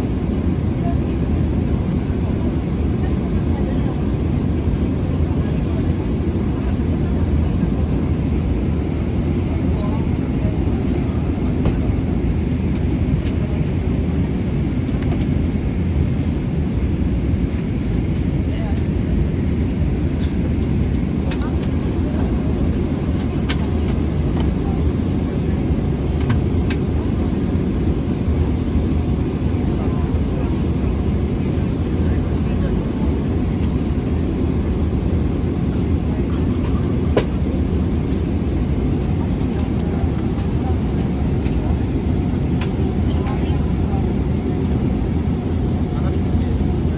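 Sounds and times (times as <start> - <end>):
airliner engines rumbling in cabin: 0.0 - 46.9.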